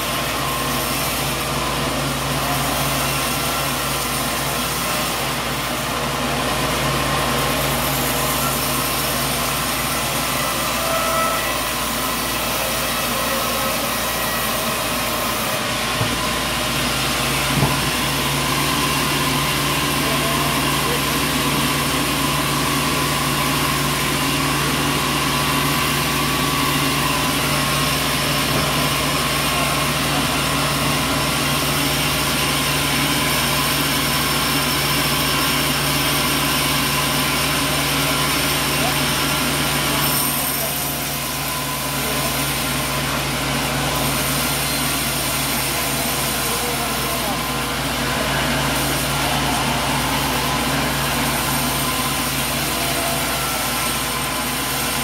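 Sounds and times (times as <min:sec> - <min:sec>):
band sawmill drone: 0:00.0 - 0:55.0.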